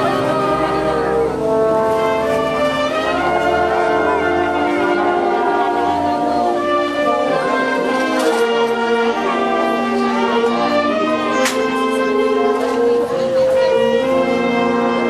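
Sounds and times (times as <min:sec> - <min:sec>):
brass band playing slow melody: 0:00.0 - 0:15.0.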